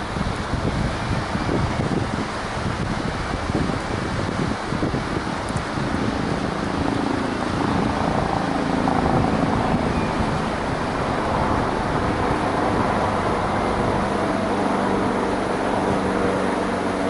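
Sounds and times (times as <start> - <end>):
helicopter flying overhead: 0.0 - 17.0
rotor blades beating: 0.0 - 17.0.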